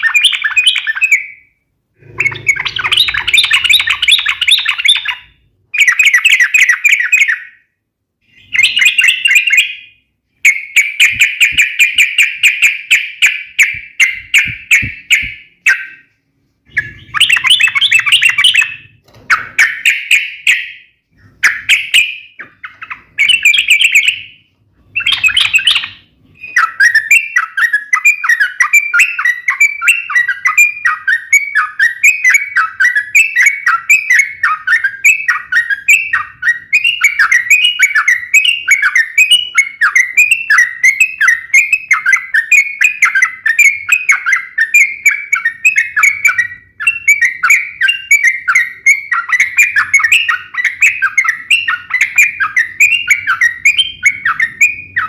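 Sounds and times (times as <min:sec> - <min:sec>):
bird singing rapid chatter: 0:00.0 - 0:55.0.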